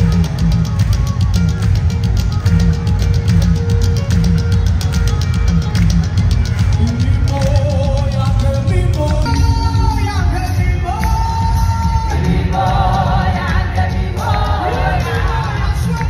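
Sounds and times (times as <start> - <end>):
drum kit: 0.0 - 16.0
gospel band playing: 0.0 - 16.0.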